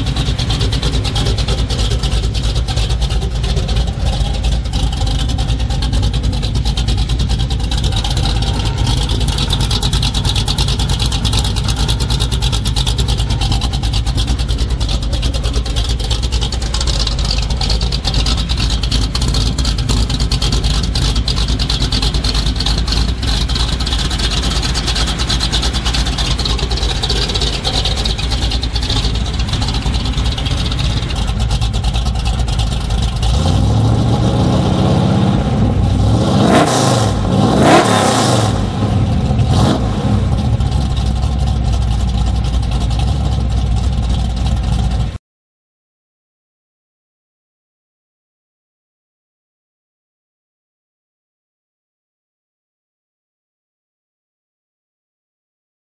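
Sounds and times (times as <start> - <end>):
truck engine idling and revving: 0.0 - 45.2.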